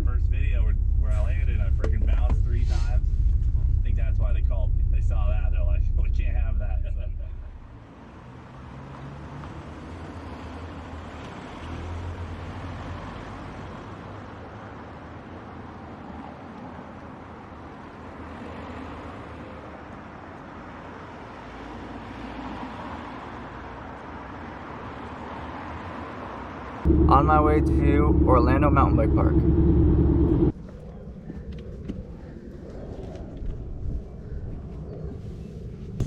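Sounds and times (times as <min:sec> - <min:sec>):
car road and engine rumble: 0:00.0 - 0:30.8.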